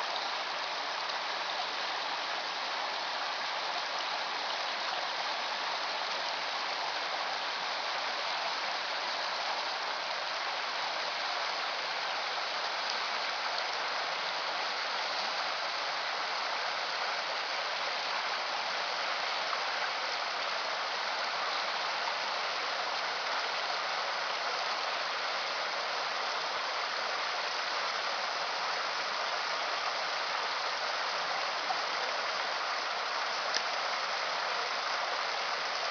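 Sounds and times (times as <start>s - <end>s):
stream flowing: 0.0s - 35.9s.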